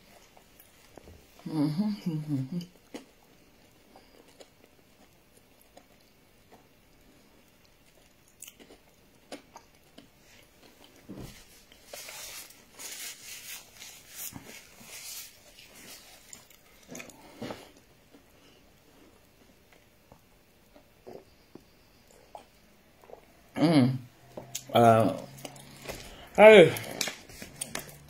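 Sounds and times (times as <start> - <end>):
chewing crunchy fried food: 2.6 - 23.4, 24.4 - 28.0.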